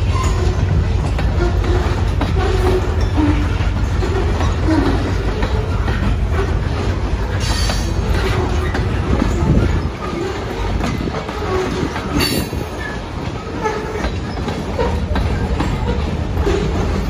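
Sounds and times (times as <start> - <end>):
freight train wheels rumbling: 0.0 - 17.0
wheel clicks at rail joints: 0.0 - 17.0.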